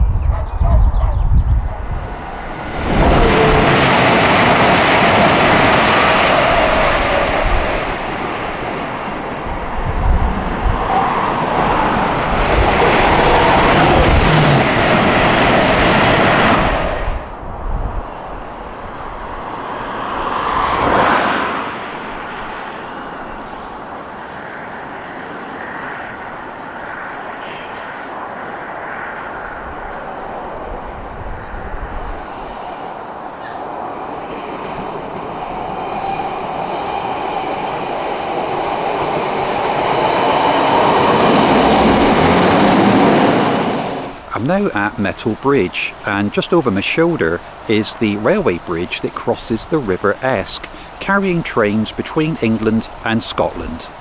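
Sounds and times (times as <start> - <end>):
train passing at speed: 0.3 - 54.0.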